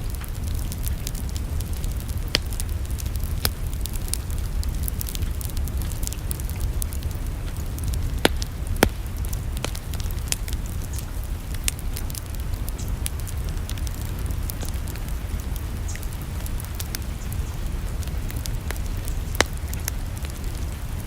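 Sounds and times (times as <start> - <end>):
loud fire pops: 0.0 - 21.0
steady low rumble: 0.0 - 21.0
wood fire crackling: 0.0 - 21.0.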